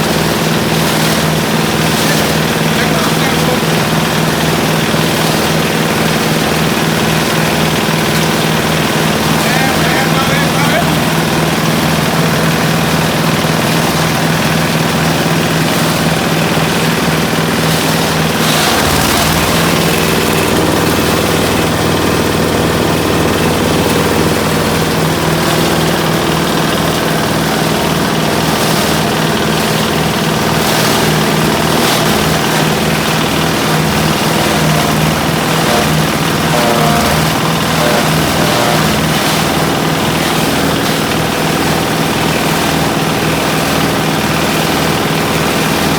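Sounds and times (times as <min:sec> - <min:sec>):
small diesel engine running: 0:00.0 - 0:45.9.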